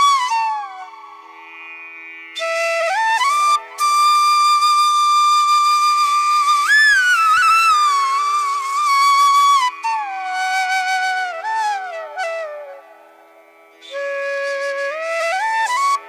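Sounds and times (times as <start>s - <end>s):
flute melody with bending notes: 0.0s - 1.3s, 2.4s - 13.1s, 13.8s - 16.0s.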